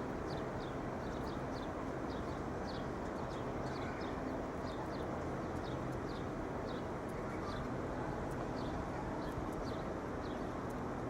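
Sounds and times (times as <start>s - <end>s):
city background noise: 0.0s - 11.0s.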